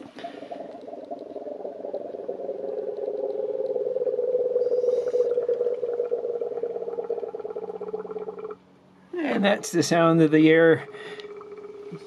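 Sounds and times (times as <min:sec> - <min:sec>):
air bubbling through coolant: 0:00.0 - 0:08.6, 0:09.2 - 0:12.0.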